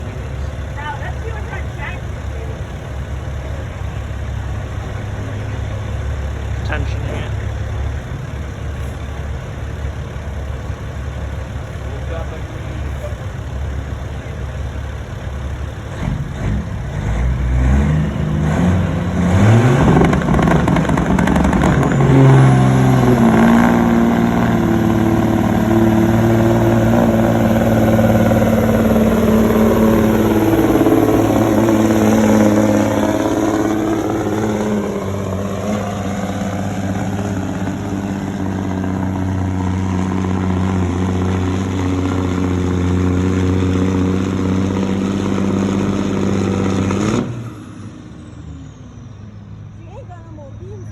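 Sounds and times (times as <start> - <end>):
diesel truck engine revving: 0.0 - 50.0.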